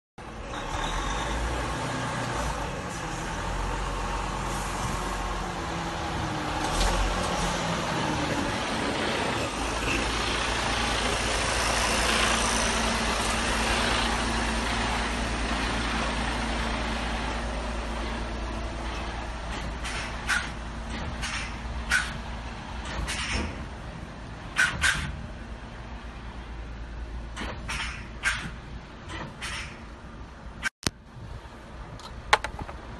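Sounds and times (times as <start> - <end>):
truck diesel engine: 0.2 - 32.9
tyre and road noise: 0.2 - 32.9.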